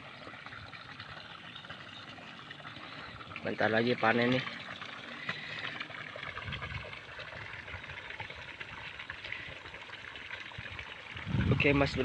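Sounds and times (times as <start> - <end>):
flowing water hiss: 0.0 - 12.0.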